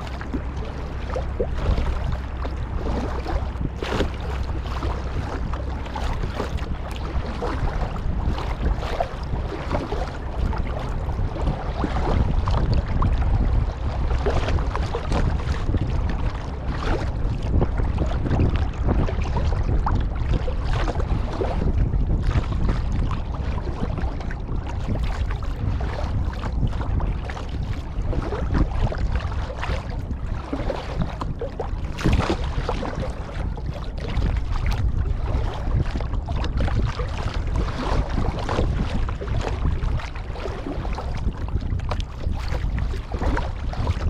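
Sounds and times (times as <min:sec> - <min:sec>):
paddle blades splashing: 0:00.0 - 0:44.0
water washing along hull: 0:00.0 - 0:44.0
wind buffeting microphone: 0:00.0 - 0:44.0.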